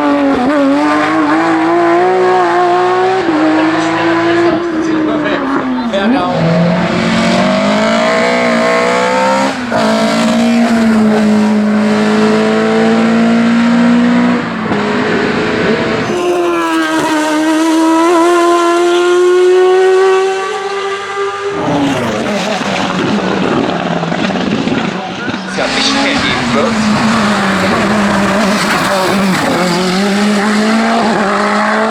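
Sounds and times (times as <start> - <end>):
race car engine at high revs: 0.0 - 31.9.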